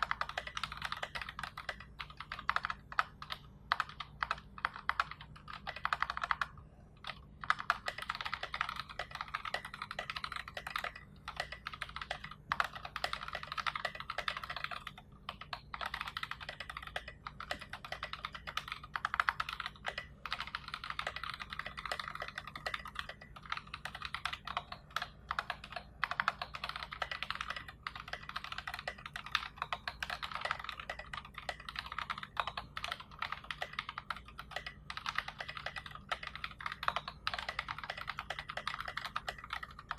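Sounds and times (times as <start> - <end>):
mechanical keyboard keys clacking: 0.0 - 39.9.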